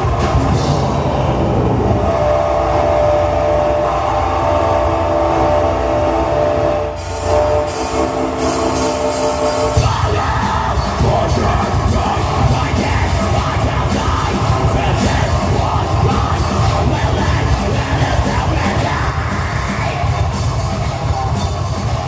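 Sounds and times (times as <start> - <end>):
heavy rock band playing: 0.0 - 5.8, 7.0 - 22.0.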